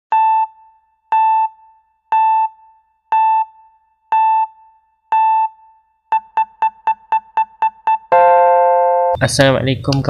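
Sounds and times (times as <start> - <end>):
electronic keyboard beep: 0.1 - 9.2.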